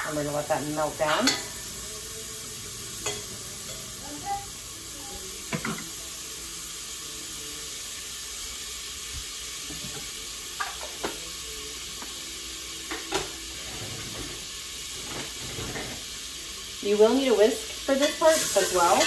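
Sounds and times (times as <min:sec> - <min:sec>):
butter sizzling in a pot: 0:00.0 - 0:19.0.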